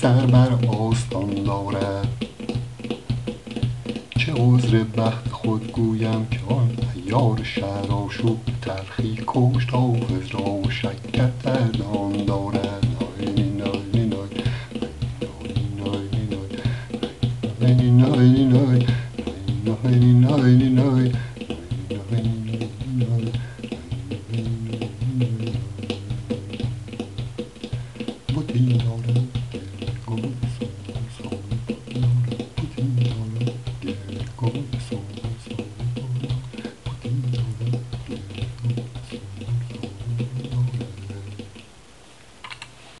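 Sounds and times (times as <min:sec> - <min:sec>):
plucked string melody: 0:00.0 - 0:41.6
man chanting: 0:00.0 - 0:41.7
light irregular clicking: 0:00.0 - 0:42.8.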